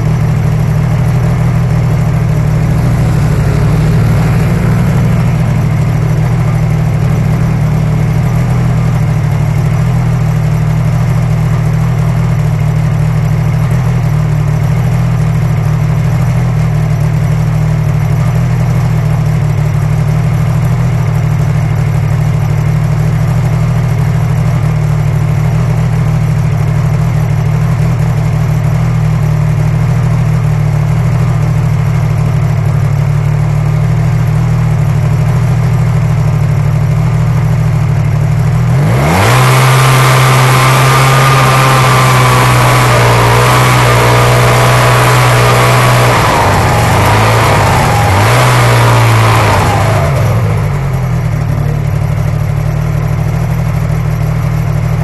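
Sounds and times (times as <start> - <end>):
snowmobile engine idling: 0.0 - 55.0.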